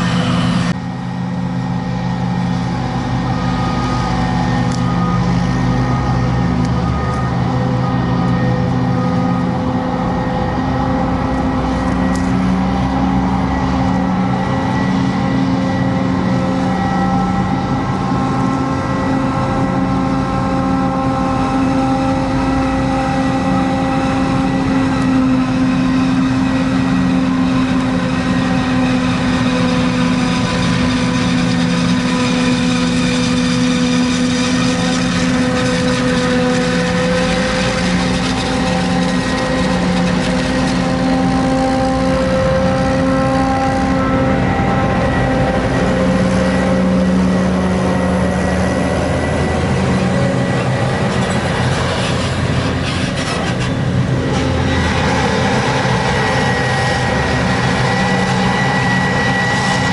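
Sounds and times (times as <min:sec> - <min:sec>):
constant tonal hum: 0:00.0 - 0:59.9
heavy diesel machinery running: 0:00.0 - 0:59.9.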